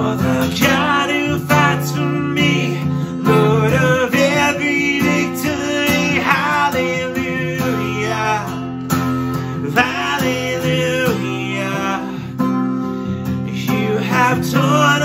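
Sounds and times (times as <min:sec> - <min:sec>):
man and woman singing: 0:00.0 - 0:08.8, 0:09.5 - 0:12.4, 0:13.4 - 0:15.0
acoustic guitar strummed: 0:00.0 - 0:15.0.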